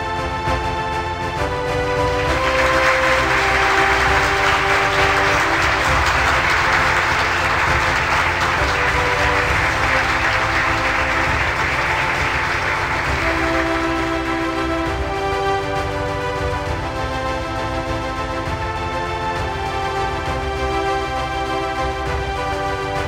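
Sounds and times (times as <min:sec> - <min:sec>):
background music: 0:00.0 - 0:23.0
audience applauding: 0:01.4 - 0:23.0.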